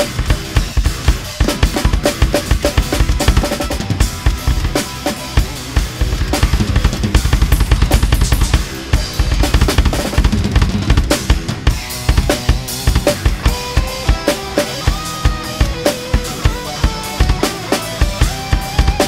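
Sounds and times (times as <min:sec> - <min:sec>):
drum kit playing fast metal groove: 0:00.0 - 0:19.0
instrumental backing track: 0:00.0 - 0:19.0.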